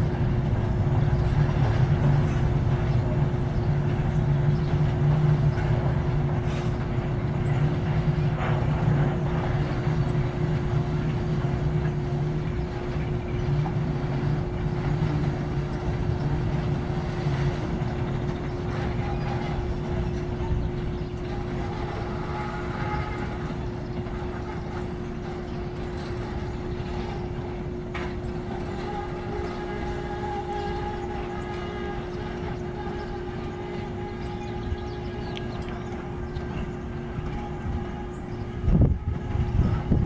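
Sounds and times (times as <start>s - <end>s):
freight train rolling past: 0.0s - 40.0s.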